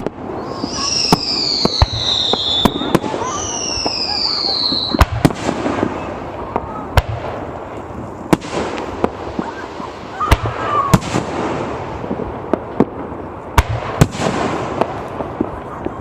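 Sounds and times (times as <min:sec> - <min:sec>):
fireworks bangs: 0:00.0 - 0:16.0
fireworks crackle and rumble: 0:00.0 - 0:16.0.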